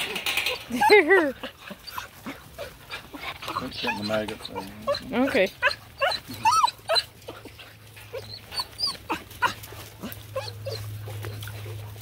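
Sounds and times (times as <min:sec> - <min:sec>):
puppies crying: 0:00.0 - 0:12.0.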